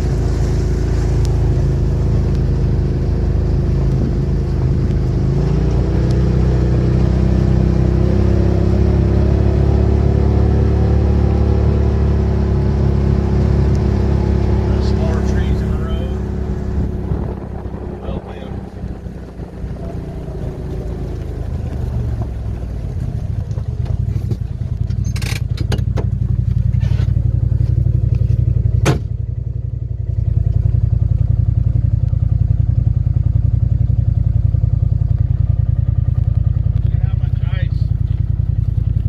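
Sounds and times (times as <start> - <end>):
vehicle engine driving: 0.0 - 39.0.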